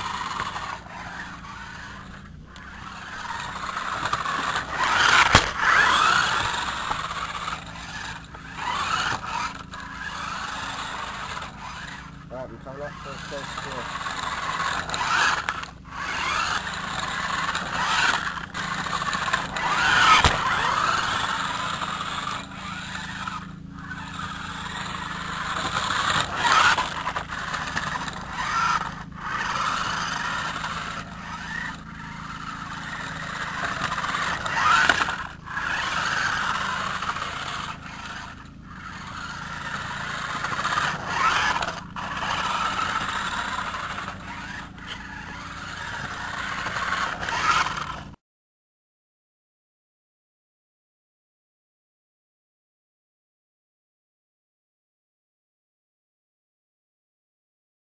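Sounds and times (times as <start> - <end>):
toy car motor whirring: 0.0 - 48.2.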